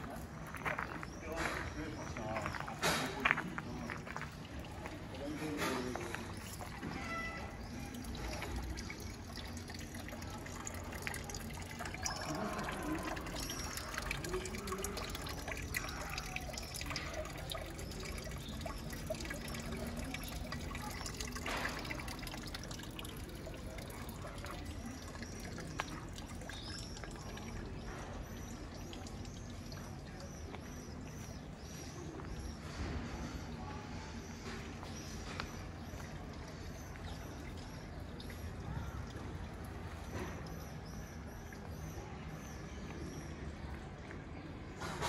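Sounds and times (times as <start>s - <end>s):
small water drips: 0.0s - 45.0s
water trickling: 0.0s - 45.0s.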